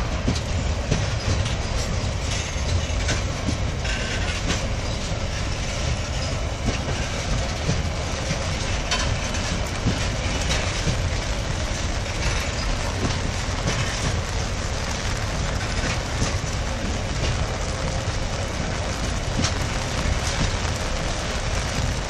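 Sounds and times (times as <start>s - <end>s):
freight wagons rumbling on rails: 0.0s - 22.0s
wheels clanking on track: 0.0s - 22.0s.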